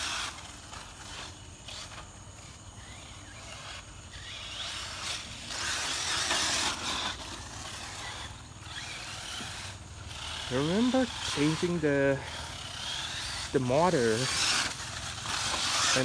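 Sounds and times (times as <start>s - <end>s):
toy car motor whine: 0.0s - 16.0s
tyres hissing on dirt: 0.0s - 16.0s.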